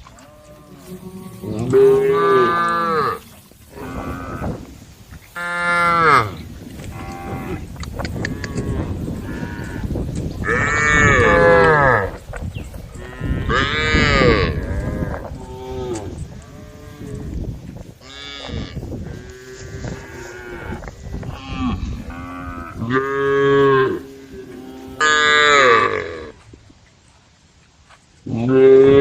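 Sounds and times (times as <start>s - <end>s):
cattle mooing: 0.2s - 4.7s, 5.4s - 12.2s, 13.0s - 17.4s, 18.0s - 26.4s.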